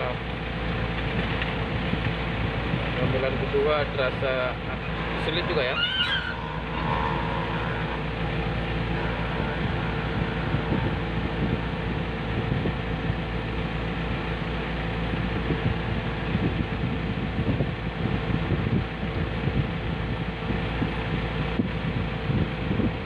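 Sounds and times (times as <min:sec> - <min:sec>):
diesel engine running at low revs: 0:00.0 - 0:23.0.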